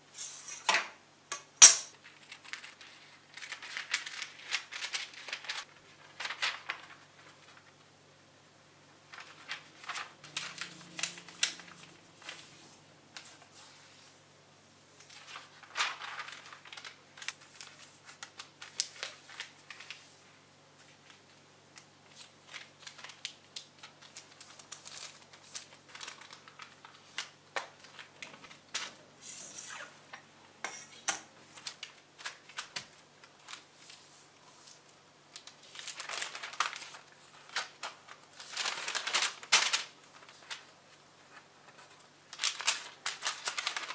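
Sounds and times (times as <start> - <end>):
baking paper crinkling: 1.9 - 7.9, 8.9 - 14.1, 15.0 - 29.1, 31.4 - 43.9.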